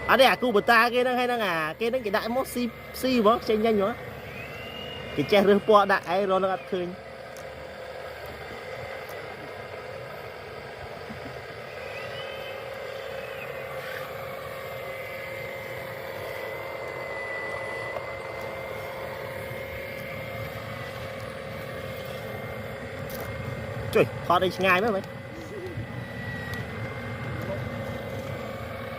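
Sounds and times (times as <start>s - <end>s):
electric motor whine: 0.0s - 28.9s.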